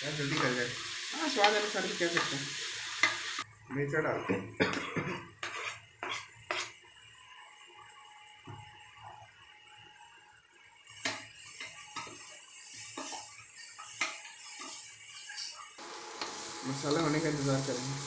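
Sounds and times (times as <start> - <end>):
onions sizzling in oil: 0.0 - 4.0, 5.3 - 18.0.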